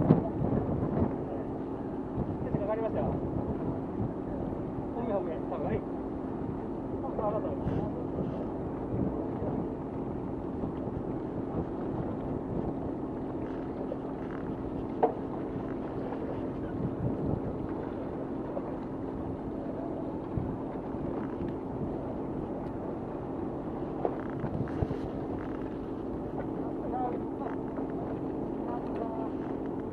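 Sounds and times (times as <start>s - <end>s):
boat engine humming: 0.0s - 29.9s.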